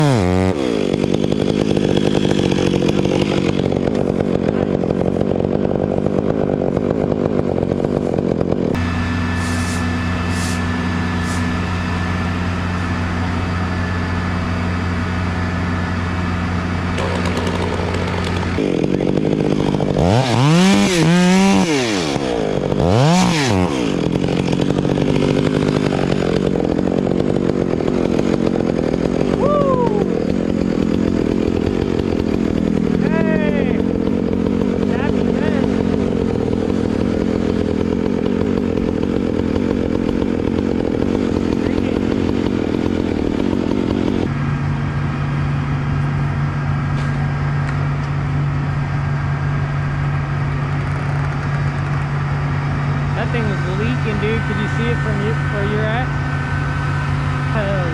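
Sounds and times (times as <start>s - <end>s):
chainsaw engine running: 0.0s - 57.9s.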